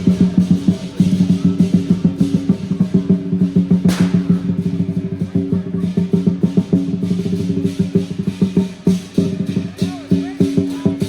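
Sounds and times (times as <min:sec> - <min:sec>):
drum beaten in fast rolls: 0:00.0 - 0:11.0.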